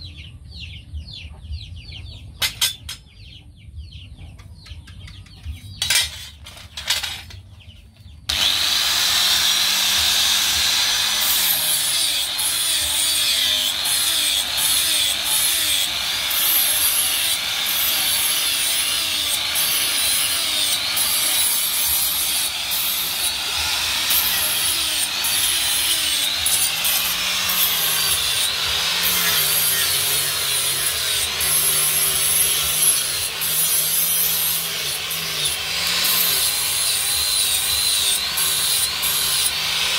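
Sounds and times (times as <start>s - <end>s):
angle grinder grinding steel: 5.7s - 7.5s, 8.3s - 39.9s.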